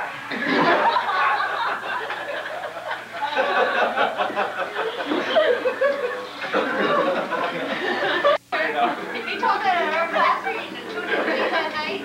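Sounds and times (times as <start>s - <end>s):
group of people laughing: 0.3s - 9.4s, 10.9s - 12.0s.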